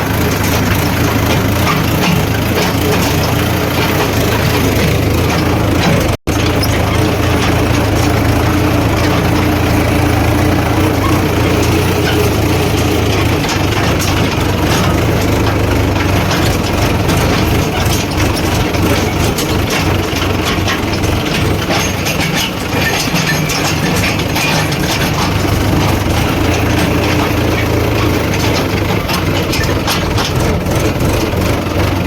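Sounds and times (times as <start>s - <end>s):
heavy diesel engines running: 0.0s - 32.0s
knocks and clatter: 0.0s - 32.0s.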